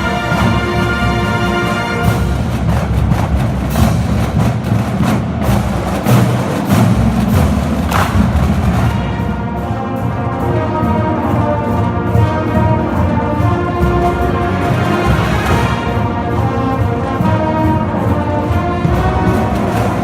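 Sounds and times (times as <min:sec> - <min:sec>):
brass sustained chords: 0:00.0 - 0:02.8, 0:06.7 - 0:20.0
marching bands playing: 0:00.0 - 0:20.0
sharp percussion hits: 0:00.0 - 0:20.0.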